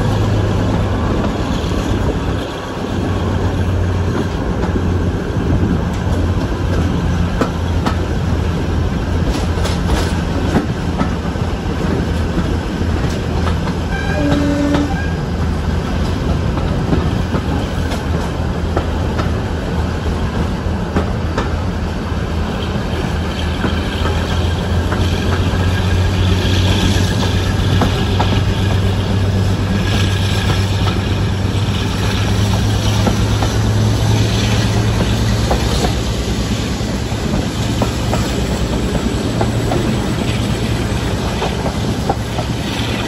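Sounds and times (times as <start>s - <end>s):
diesel locomotive engine drone: 0.0s - 43.0s
rush of air past train: 0.0s - 43.0s
train wheels clicking on rails: 0.0s - 43.0s.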